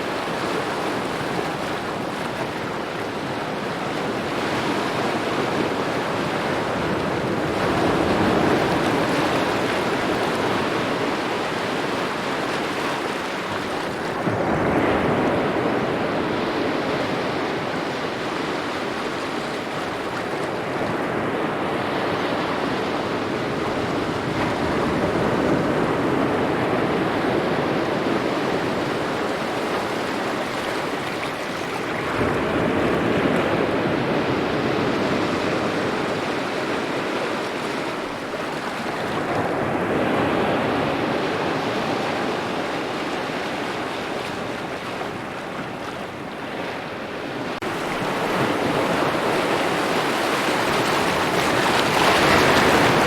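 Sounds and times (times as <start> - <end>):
small waves lapping at shore: 0.0 - 53.0.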